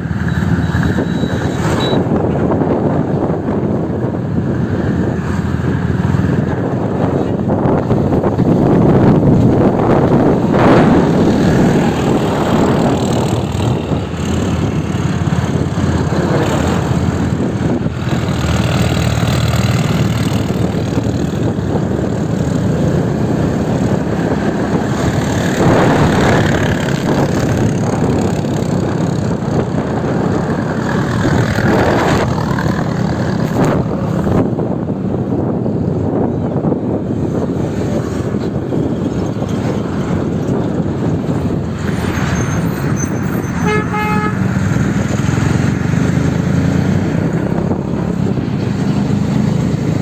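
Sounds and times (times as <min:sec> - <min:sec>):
diesel tractor engines passing: 0:00.0 - 0:50.0.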